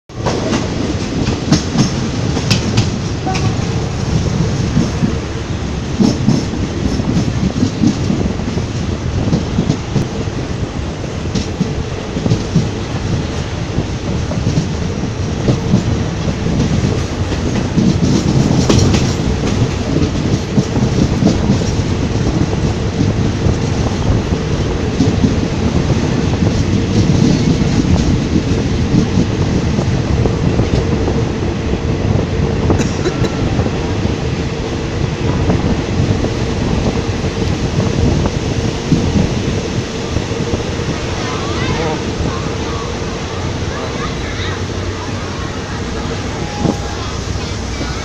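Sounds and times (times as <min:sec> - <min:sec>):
train wheels rumbling: 0:00.1 - 0:48.0
wheels clacking over rail joints: 0:00.1 - 0:48.0.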